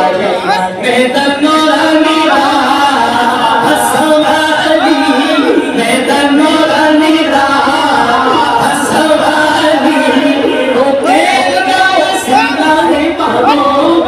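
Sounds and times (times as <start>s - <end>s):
men singing with held notes: 0.0s - 14.0s.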